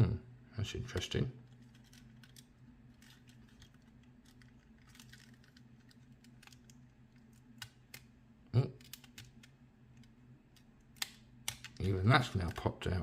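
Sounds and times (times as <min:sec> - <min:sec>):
low steady hum: 0:00.0 - 0:13.0
small plastic parts clicking: 0:01.4 - 0:08.1, 0:08.8 - 0:12.6.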